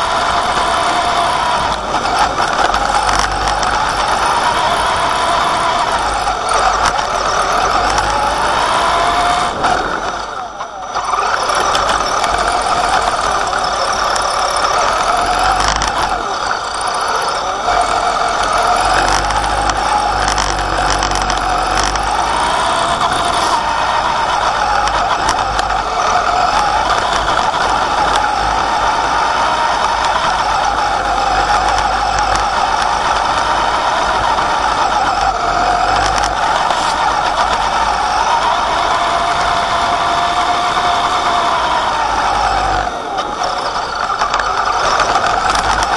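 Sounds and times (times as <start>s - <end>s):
chassis rumbling and rattling: 0.0s - 45.9s
electric motor and gearbox whine: 0.0s - 45.9s.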